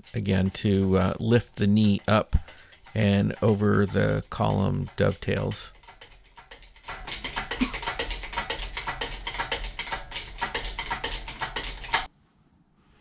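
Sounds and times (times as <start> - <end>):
engine hoist clicking and rattling: 0.0 - 12.1.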